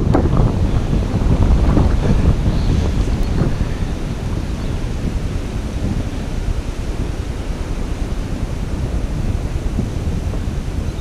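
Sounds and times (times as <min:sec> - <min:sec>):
wind blowing across microphone: 0:00.0 - 0:11.0.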